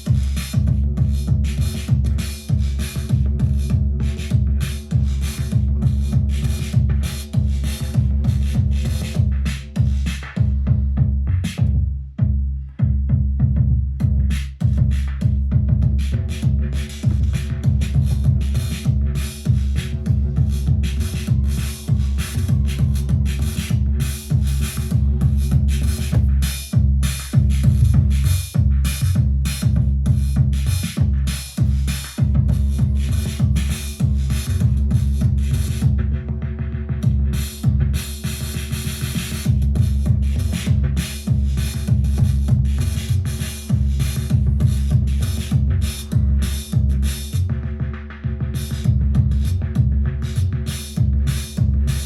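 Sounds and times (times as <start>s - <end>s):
hi-hat and cymbal hits: 0.0s - 11.8s, 14.0s - 36.0s, 37.0s - 47.6s, 48.5s - 52.0s
booming kick drum: 0.0s - 36.2s, 37.0s - 38.3s, 39.4s - 47.6s, 48.4s - 52.0s
pitched bass tones: 0.0s - 52.0s.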